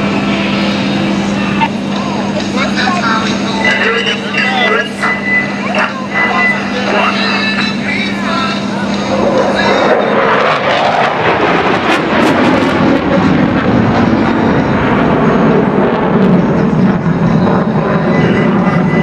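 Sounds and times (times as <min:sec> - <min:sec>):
aircraft engine roar: 0:00.0 - 0:19.0.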